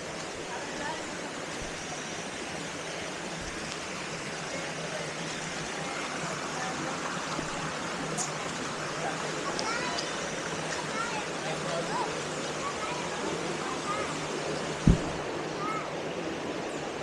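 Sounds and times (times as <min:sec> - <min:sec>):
stream and waterfall rushing: 0:00.0 - 0:17.0.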